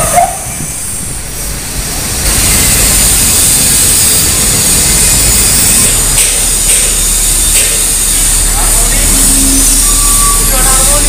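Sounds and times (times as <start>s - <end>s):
road traffic din: 0.0s - 11.0s.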